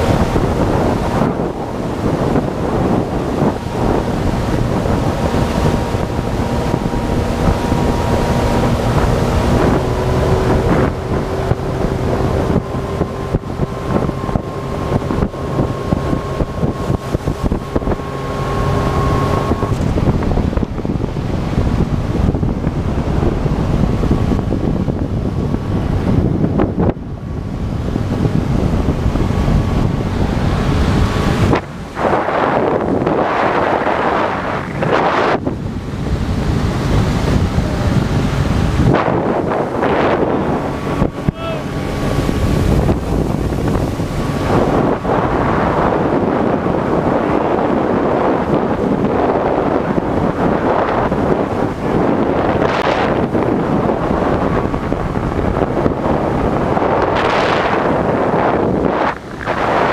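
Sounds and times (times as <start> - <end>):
outboard motor running: 0.0 - 59.9
water rushing past hull: 0.0 - 59.9
wind buffeting microphone: 0.0 - 59.9.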